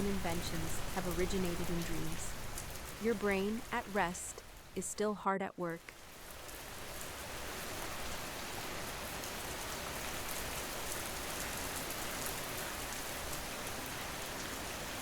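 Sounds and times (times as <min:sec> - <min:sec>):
steady rain: 0:00.0 - 0:05.2, 0:05.8 - 0:15.0.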